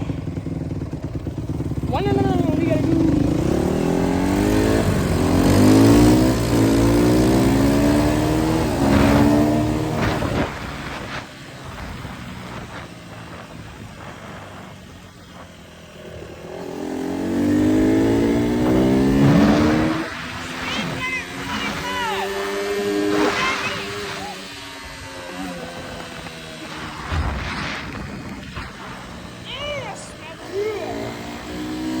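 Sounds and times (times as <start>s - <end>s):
dirt bike engine accelerating: 0.0s - 32.0s.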